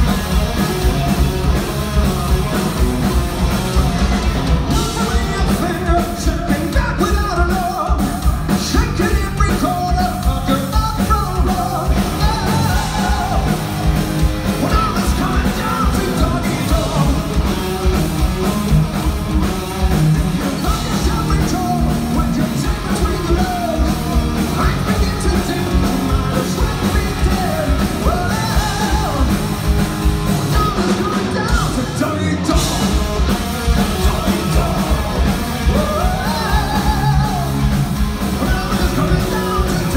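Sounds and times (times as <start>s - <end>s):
heavy metal band playing live: 0.0s - 39.9s
singer's lead vocals: 0.0s - 39.9s.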